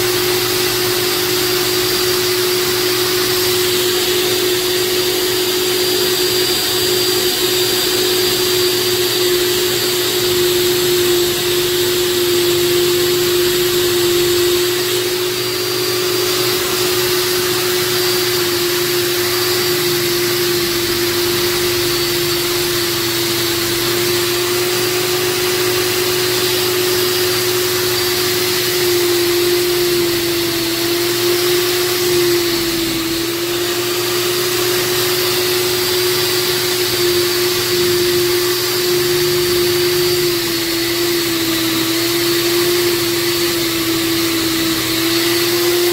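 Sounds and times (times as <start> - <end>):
food processor motor humming: 0.0 - 45.9
shredding disc grating zucchini: 0.0 - 45.9.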